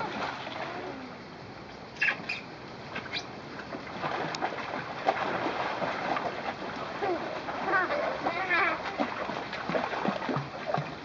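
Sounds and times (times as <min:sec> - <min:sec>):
pool water splashing: 0:00.0 - 0:01.4, 0:02.0 - 0:11.0.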